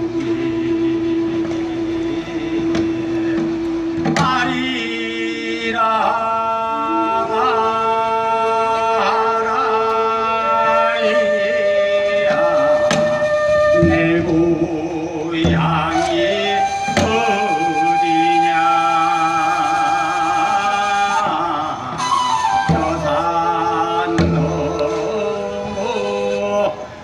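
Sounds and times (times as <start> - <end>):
flute long held notes: 0.0 - 27.0
man singing folk song with vibrato: 0.0 - 27.0.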